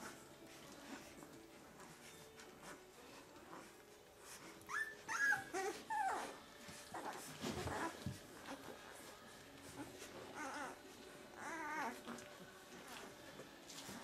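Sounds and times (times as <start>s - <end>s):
faint shuffling: 0.0s - 14.0s
puppies whimpering and squealing: 0.0s - 14.0s.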